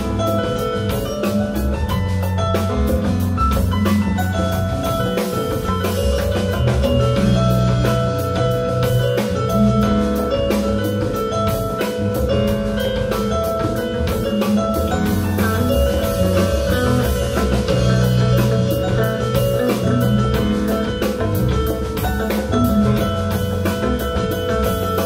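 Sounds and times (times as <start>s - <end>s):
bass: 0.0s - 25.0s
drum kit: 0.0s - 25.0s
electric guitar: 0.0s - 25.0s
keyboard: 0.0s - 25.0s.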